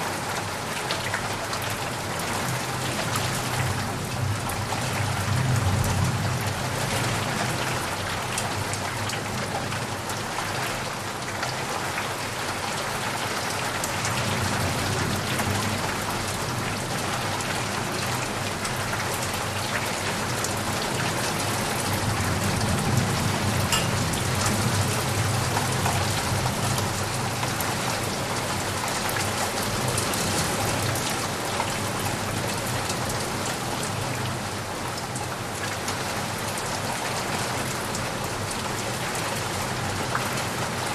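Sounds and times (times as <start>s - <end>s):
heavy rain on leaves and puddles: 0.0s - 40.9s.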